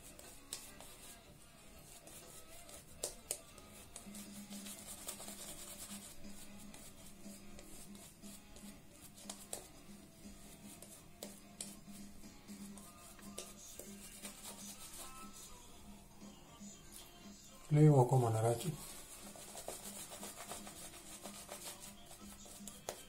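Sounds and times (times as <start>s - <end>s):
shaving brush swishing lather: 0.0s - 15.6s, 18.0s - 23.0s
soft background music: 0.0s - 23.0s.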